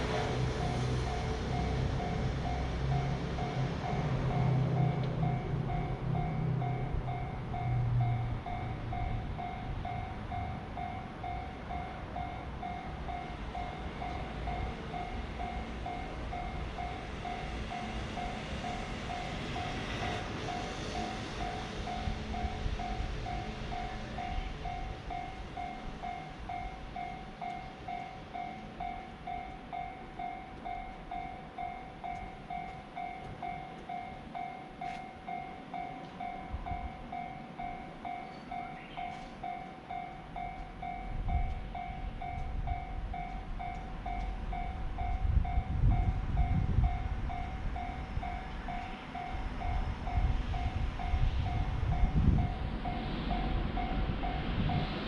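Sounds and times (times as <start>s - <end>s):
railroad crossing bell ringing: 0.0s - 55.0s
train rumble: 0.0s - 55.0s.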